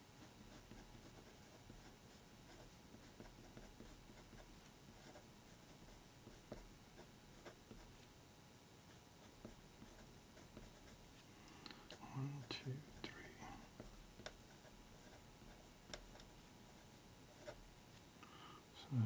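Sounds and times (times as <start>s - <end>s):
pencil scratching on paper: 0.2s - 8.0s, 8.9s - 11.1s, 12.4s - 17.6s.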